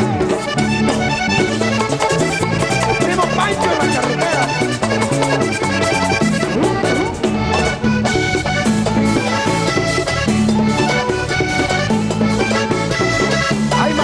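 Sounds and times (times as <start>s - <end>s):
accordion melody: 0.0s - 14.0s
steady percussion beat: 0.0s - 14.0s.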